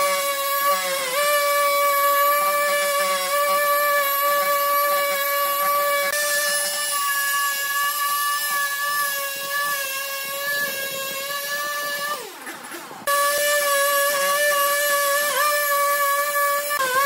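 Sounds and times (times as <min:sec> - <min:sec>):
chainsaw cutting a log: 0:00.0 - 0:17.0.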